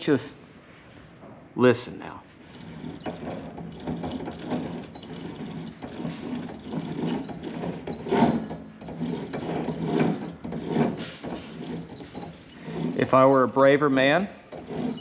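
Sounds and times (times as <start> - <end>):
saw bearings grinding: 2.3 - 15.0.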